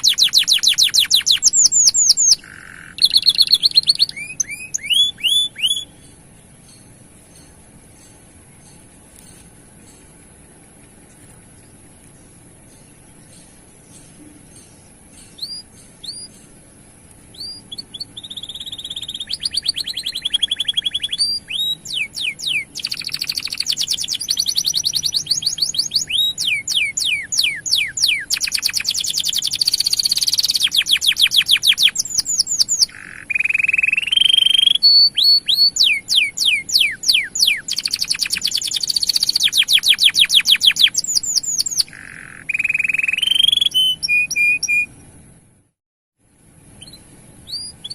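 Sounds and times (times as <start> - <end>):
canary singing: 0.0 - 45.2, 46.7 - 47.9.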